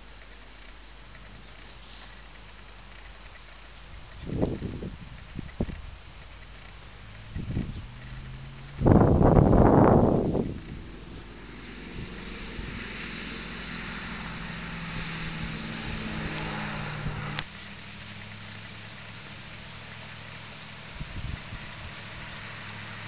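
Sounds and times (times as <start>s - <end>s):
car engine driving along: 0.0s - 23.0s.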